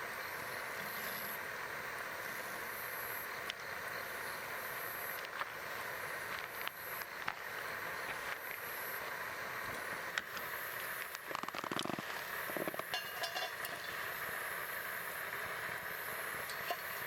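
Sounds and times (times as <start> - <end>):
campfire crackling: 0.1 - 17.0.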